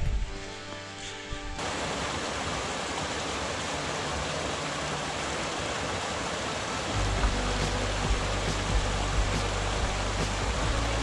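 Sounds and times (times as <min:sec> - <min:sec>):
creek running over rocks: 0:01.6 - 0:11.0.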